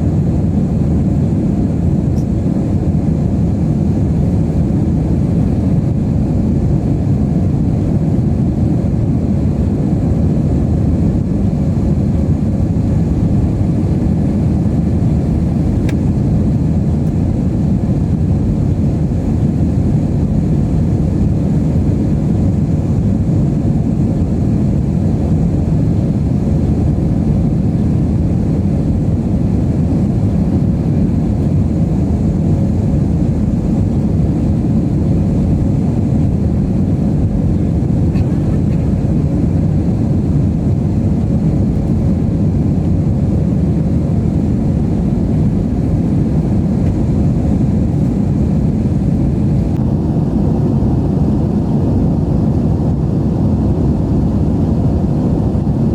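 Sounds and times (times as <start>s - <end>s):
airflow over fuselage: 0.0s - 55.9s
jet engine cabin drone: 0.0s - 55.9s.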